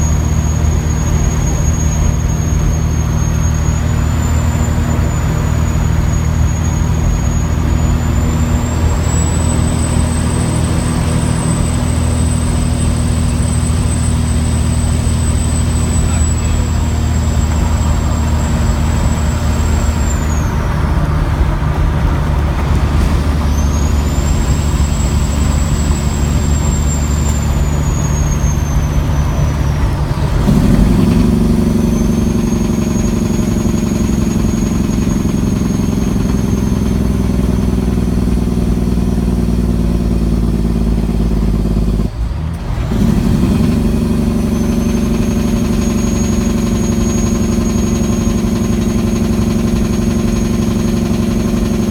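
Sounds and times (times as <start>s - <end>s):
turbo whistle: 0.0s - 42.1s, 42.9s - 51.9s
diesel engine under heavy load: 0.0s - 51.9s.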